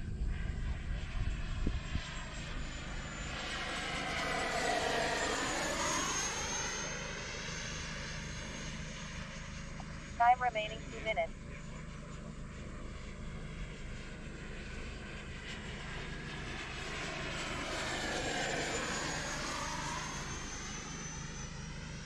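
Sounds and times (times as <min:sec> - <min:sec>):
model jet fan whine flying past: 0:00.0 - 0:10.0, 0:11.5 - 0:22.0.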